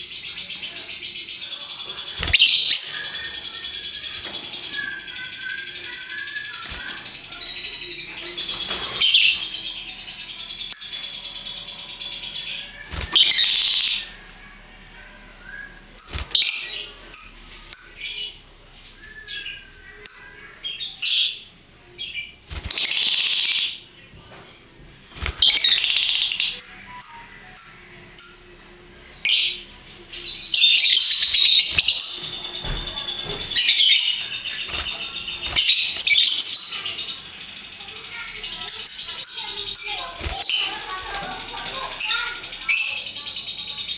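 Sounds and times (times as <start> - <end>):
lovebirds chattering: 0.0 - 43.9.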